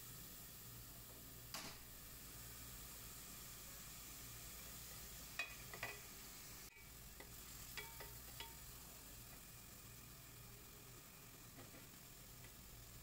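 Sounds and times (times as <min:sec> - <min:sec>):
faint frying sizzle: 0:00.0 - 0:13.0.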